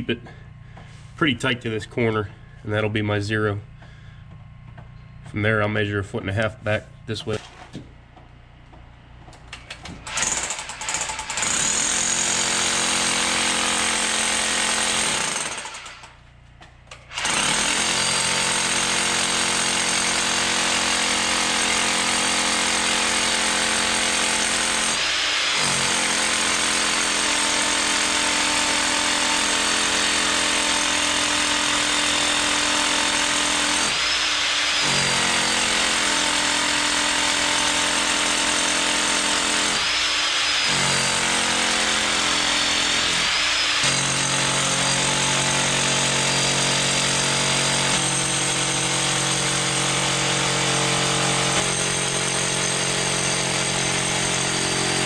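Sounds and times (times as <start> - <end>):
hammer drill boring into concrete: 10.0 - 16.2, 17.0 - 55.0.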